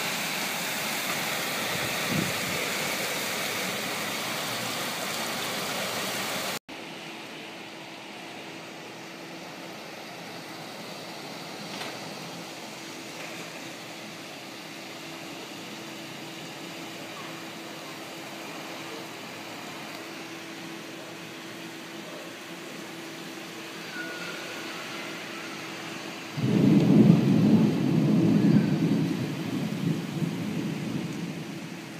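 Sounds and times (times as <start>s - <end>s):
heavy rain hissing: 0.0s - 7.0s, 7.6s - 31.9s.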